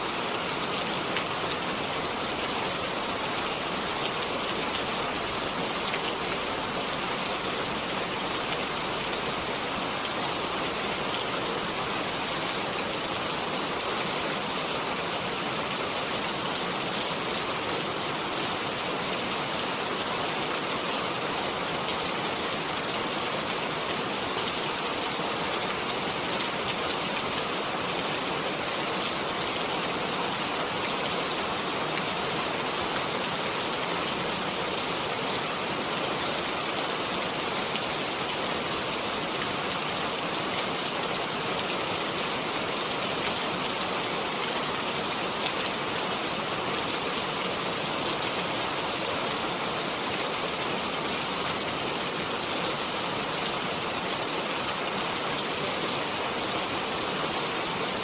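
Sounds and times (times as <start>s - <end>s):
steady rain pattering: 0.0s - 58.0s.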